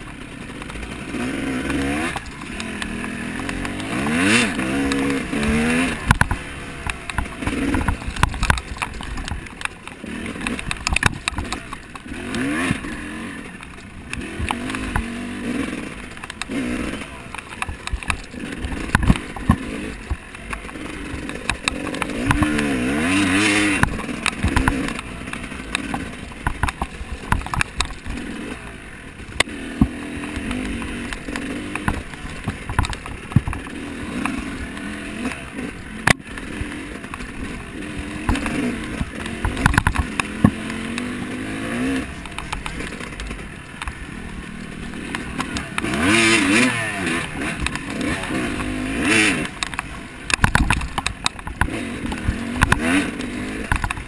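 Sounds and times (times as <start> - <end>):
knocks and rattles: 0.0 - 54.0
small engine revving: 0.0 - 54.0.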